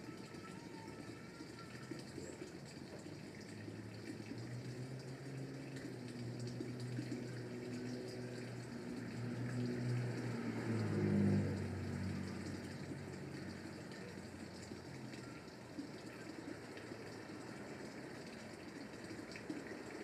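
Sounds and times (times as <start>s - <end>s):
water-like rushing noise: 0.0s - 20.0s.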